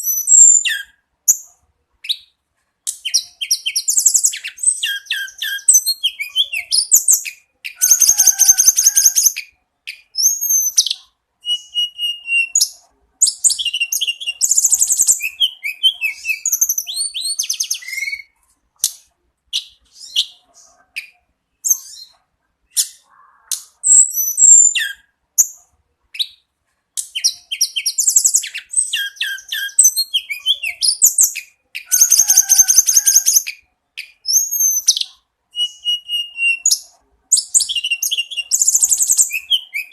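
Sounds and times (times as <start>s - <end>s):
songbird trilling and whistling: 0.0s - 2.3s, 2.9s - 25.6s, 26.2s - 26.4s, 27.0s - 39.9s.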